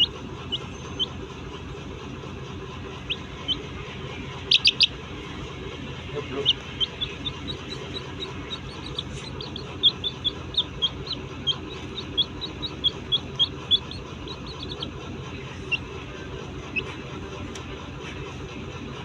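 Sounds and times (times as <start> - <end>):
small birds chirping: 0.0 - 18.3
steady low hum: 0.0 - 19.0.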